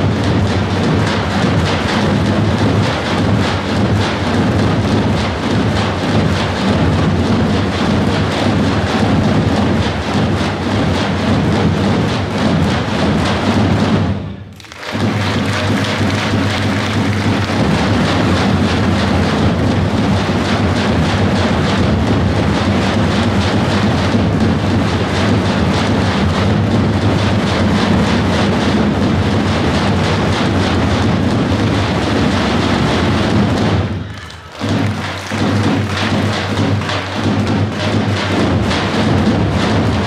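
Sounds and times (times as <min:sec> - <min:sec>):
massed drum roll: 0:00.0 - 0:40.0.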